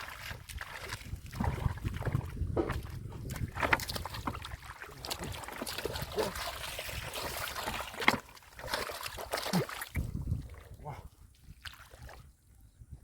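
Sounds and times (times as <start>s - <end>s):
water sloshing and splashing: 0.0s - 12.6s.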